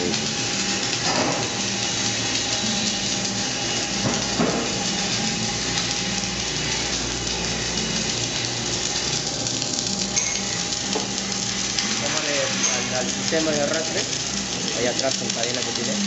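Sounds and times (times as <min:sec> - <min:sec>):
welding machine hissing: 0:00.0 - 0:16.0.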